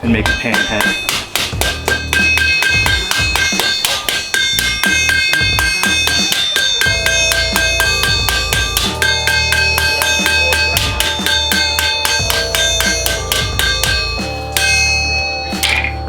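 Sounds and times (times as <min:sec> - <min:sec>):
background music with beat and bass: 0:00.0 - 0:16.0
metal hammer taps: 0:00.0 - 0:16.0.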